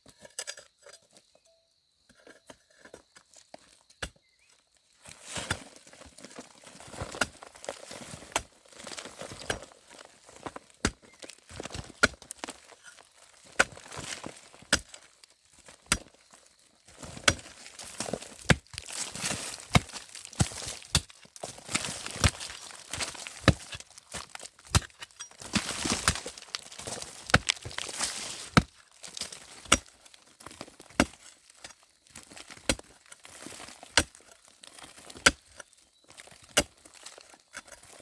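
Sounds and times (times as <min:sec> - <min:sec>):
twigs and leaves crunching: 0:03.1 - 0:38.0.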